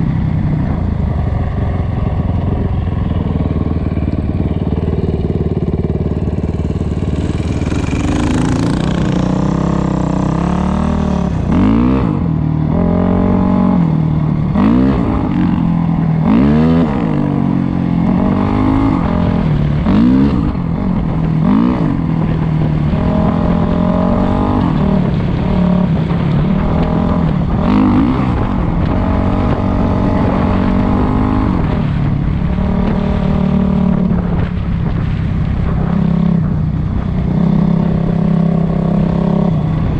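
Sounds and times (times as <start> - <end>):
dirt bike engine revving: 1.9 - 36.6.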